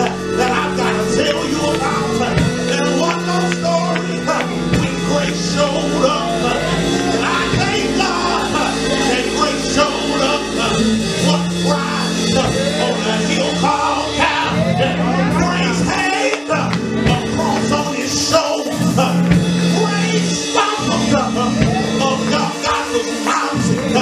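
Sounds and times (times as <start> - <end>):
church organ chords: 0.0 - 24.0
preacher chanting into microphone: 0.0 - 24.0.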